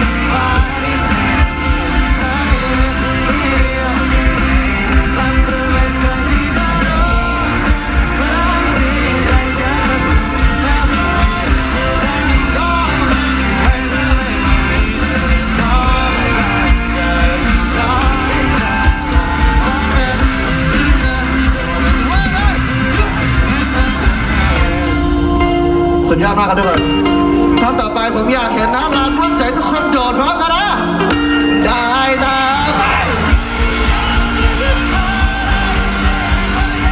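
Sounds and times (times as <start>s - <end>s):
lead vocal singing: 0.0s - 36.9s
live rock band playing: 0.0s - 36.9s.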